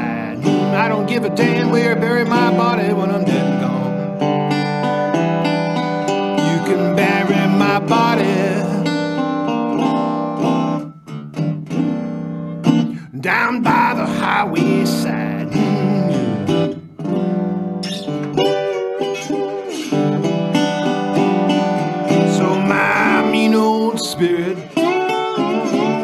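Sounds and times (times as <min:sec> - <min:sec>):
slide guitar blues: 0:00.0 - 0:26.0.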